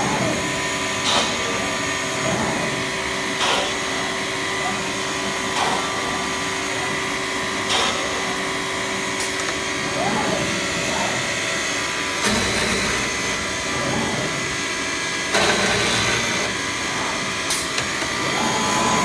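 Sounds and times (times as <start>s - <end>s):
router machine hum and whine: 0.0s - 19.0s.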